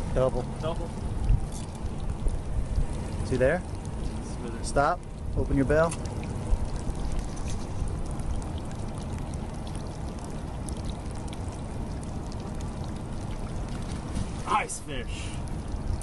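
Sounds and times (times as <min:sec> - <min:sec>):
steady low rumble: 0:00.0 - 0:16.0
water sloshing against boat hull: 0:00.0 - 0:16.0.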